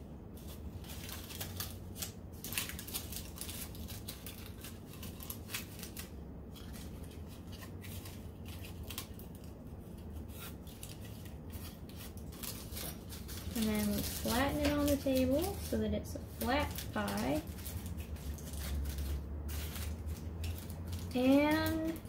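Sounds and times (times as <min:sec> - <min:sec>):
aluminium foil crinkling: 0:00.4 - 0:22.0.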